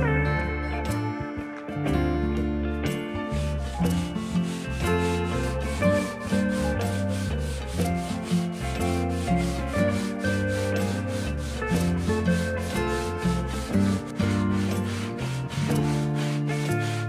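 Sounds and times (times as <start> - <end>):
music with steady beat: 0.0 - 17.0
plane sanded on sandpaper: 3.3 - 17.0.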